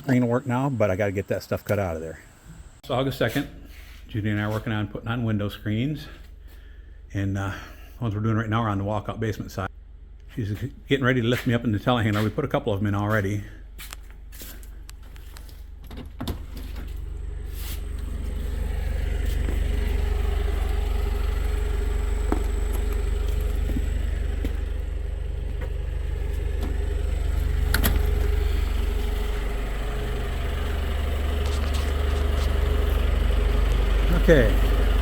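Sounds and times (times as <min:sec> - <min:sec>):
engine low rumble: 0:00.0 - 0:35.0.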